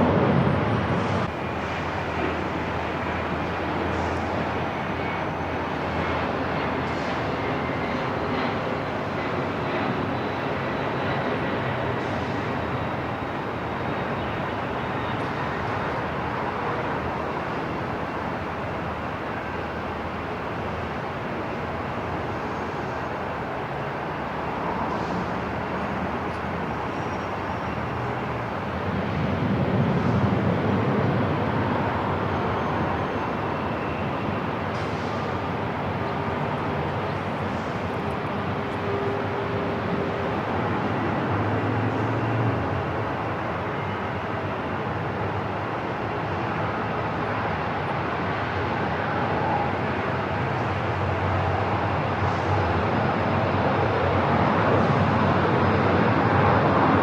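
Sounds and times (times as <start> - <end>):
airport ambient noise: 0.0 - 57.0
jet engine rumble: 0.0 - 57.0.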